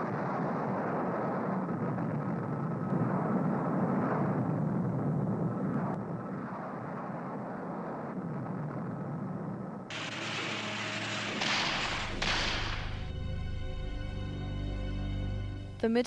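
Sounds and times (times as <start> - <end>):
aircraft engine in flight: 0.0 - 13.1.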